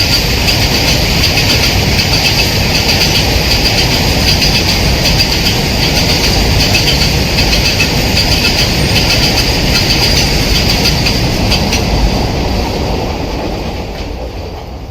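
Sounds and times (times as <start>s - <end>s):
train wheels clattering on rails: 0.0s - 14.9s.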